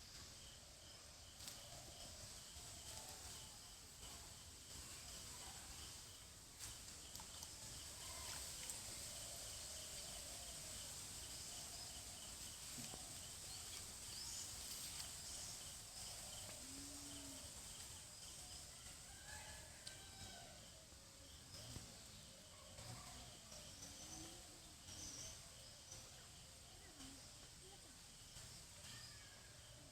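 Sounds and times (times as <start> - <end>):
insect drone with pulsing trill: 0.0 - 29.9.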